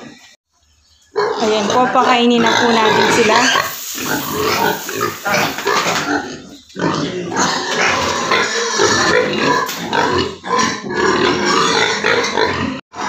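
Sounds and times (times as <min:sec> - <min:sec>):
piglets grunting and squealing: 0:01.1 - 0:13.0.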